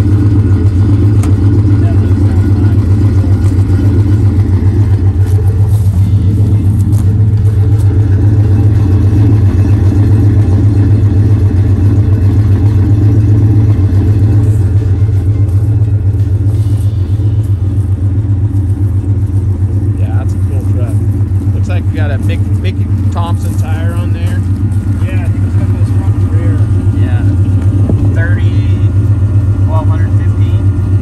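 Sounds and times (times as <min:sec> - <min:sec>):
engine idling with deep rumble: 0:00.0 - 0:31.0.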